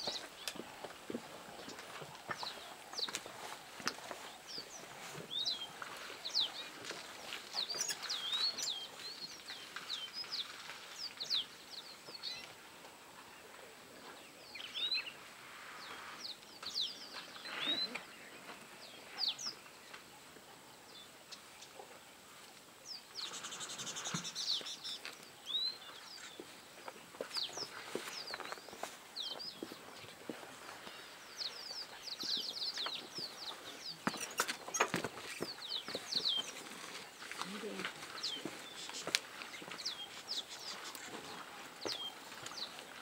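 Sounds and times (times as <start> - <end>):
wild birds chirping: 0.0 - 43.0.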